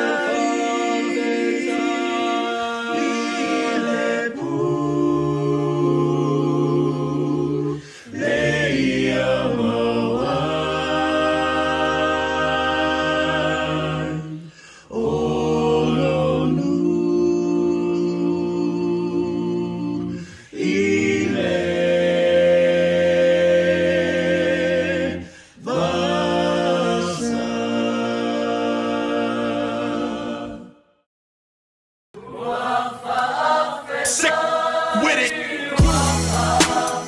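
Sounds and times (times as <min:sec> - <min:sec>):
a cappella choir singing: 0:00.0 - 0:31.1, 0:32.2 - 0:37.0.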